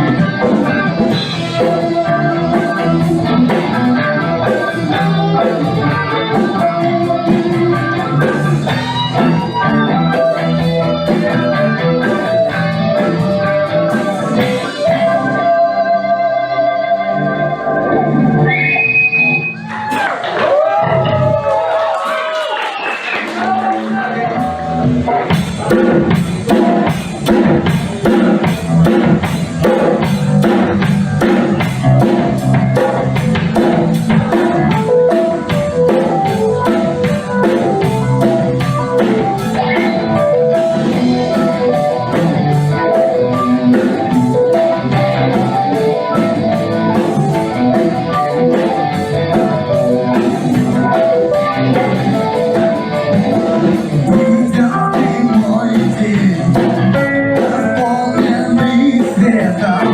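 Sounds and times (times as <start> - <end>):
drum kit beat: 0.0 - 16.2, 18.3 - 59.9
rock band playing: 0.0 - 59.9.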